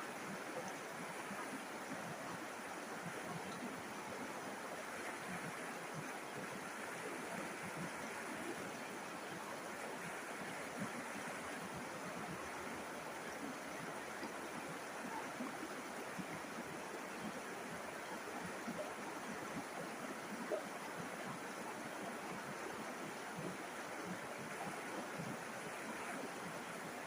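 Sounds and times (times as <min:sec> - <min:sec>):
river water flowing and babbling: 0:00.0 - 0:27.0.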